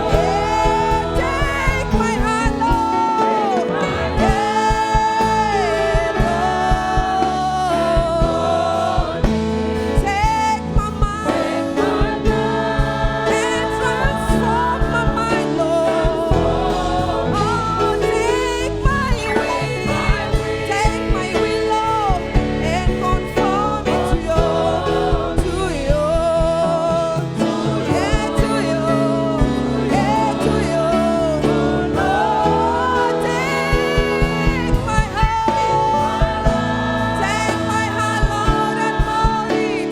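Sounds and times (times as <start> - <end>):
choir singing gospel with band: 0.0 - 39.9.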